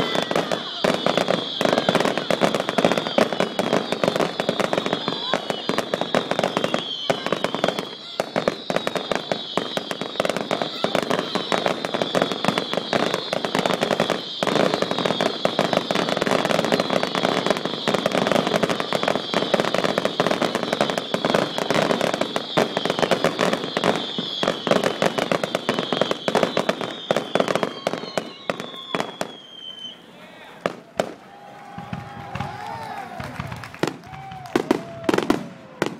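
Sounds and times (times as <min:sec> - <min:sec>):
fireworks bangs and crackles: 0:00.0 - 0:35.9.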